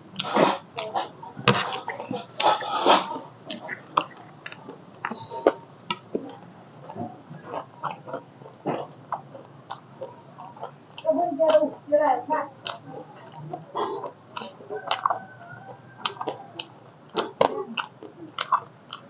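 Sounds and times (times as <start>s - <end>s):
snack crunching: 0.1s - 11.9s, 12.6s - 19.0s.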